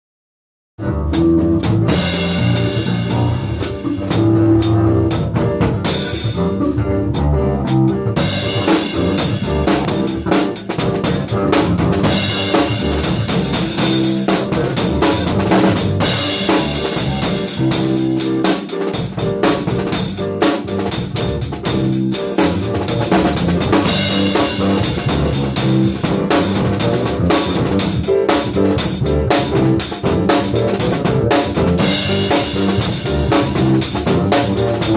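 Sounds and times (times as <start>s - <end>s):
bass line: 0.8s - 34.9s
funk drum kit: 0.8s - 34.9s.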